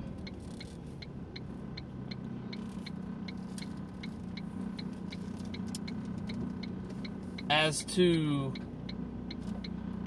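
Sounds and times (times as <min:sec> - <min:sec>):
low car cabin hum: 0:00.0 - 0:10.0
turn signal relay ticking: 0:00.0 - 0:10.0.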